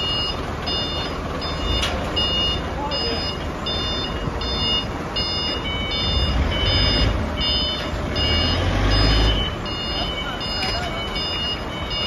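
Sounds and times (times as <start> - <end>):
forklift engine running: 0.0 - 12.0
reversing alarm beeps: 0.0 - 12.0.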